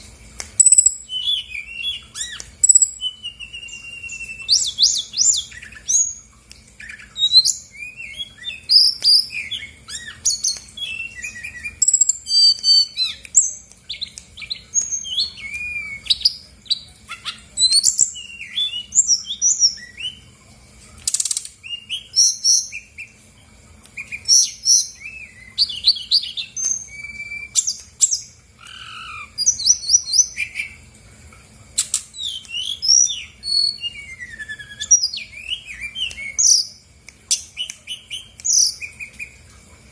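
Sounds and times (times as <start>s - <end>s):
bird singing chirps and trills: 0.6s - 20.3s, 21.0s - 23.2s, 24.0s - 30.8s, 31.8s - 39.5s.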